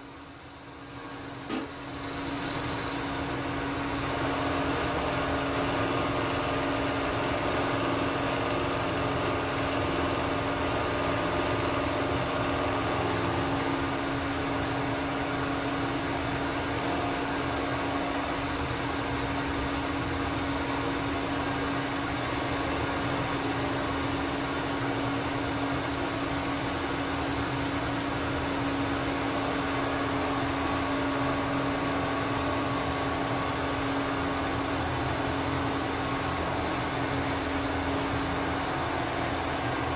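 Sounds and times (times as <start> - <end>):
milling machine humming: 0.2 - 39.9.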